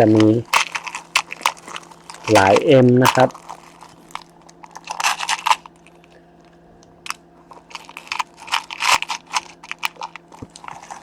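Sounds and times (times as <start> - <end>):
small screws rummaged by hand: 0.0 - 6.2, 7.0 - 11.0.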